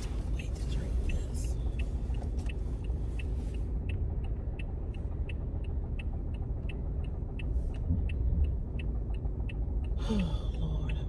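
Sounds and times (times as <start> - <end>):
car cabin road and engine rumble: 0.0 - 11.0
turn signal ticking: 0.0 - 11.0.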